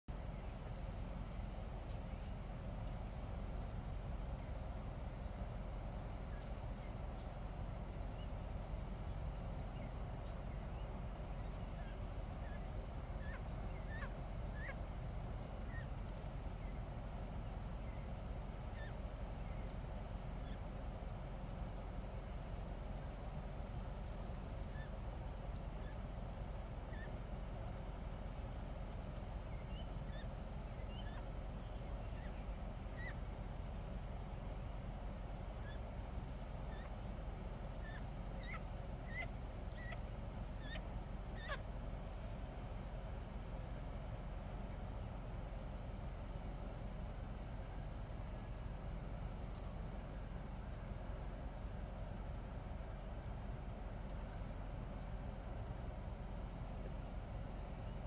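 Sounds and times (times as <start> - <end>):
faint bird chirps: 0.1 - 58.0
low background noise: 0.1 - 58.0
small birds calling: 0.1 - 58.0.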